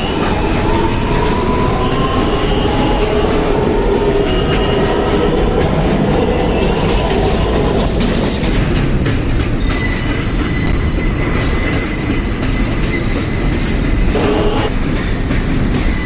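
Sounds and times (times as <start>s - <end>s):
high wheel squeal: 0.0s - 8.5s, 9.6s - 16.0s
subway wheels rumbling on track: 0.0s - 16.0s.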